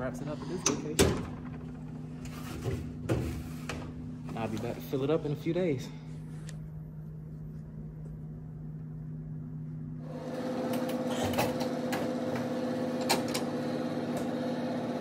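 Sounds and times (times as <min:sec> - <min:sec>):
vending machine humming: 0:00.0 - 0:15.0.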